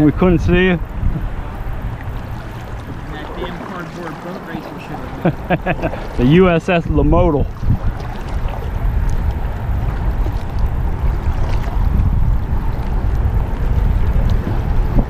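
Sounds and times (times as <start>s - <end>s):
wind rumble on microphone: 0.0s - 15.0s
paddle swishing through water: 0.8s - 15.0s.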